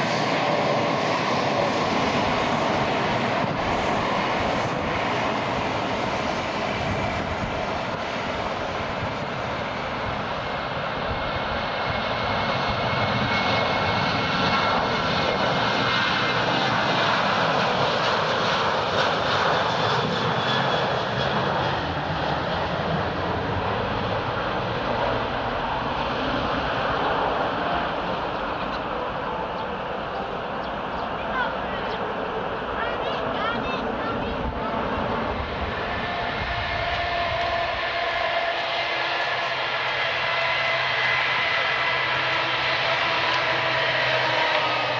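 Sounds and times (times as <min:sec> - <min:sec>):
jet engine roar: 0:00.0 - 0:44.9.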